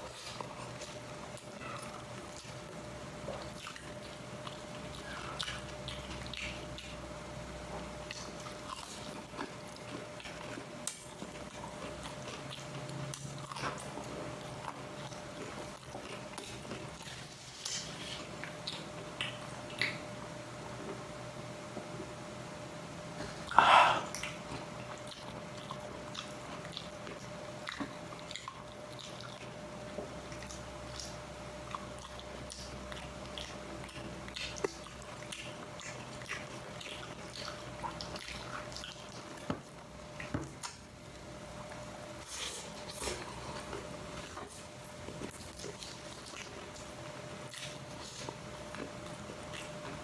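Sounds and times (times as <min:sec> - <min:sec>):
person chewing food: 0:00.0 - 0:21.2, 0:23.2 - 0:50.0
faint steady hum: 0:00.0 - 0:50.0.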